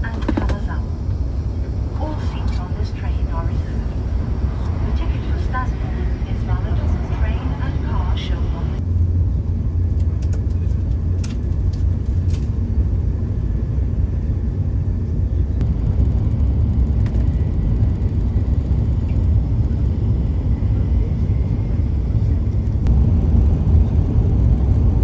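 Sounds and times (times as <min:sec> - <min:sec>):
train cabin rumble: 0:00.0 - 0:25.0.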